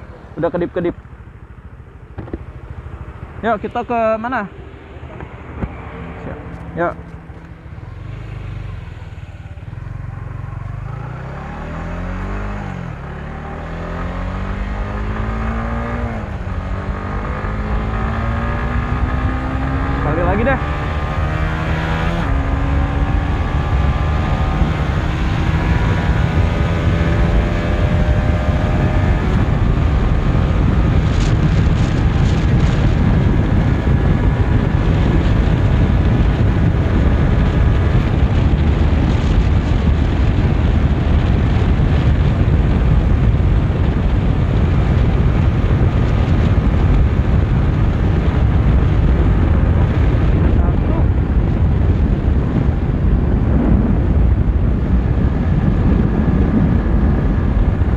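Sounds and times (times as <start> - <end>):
motorcycle engine accelerating: 0.0 - 57.9
wind rush on microphone: 1.7 - 57.9.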